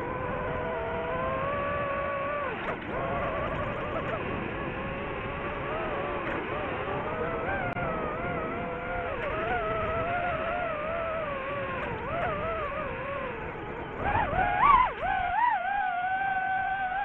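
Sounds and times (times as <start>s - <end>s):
drone propeller motors whining: 0.0s - 17.0s.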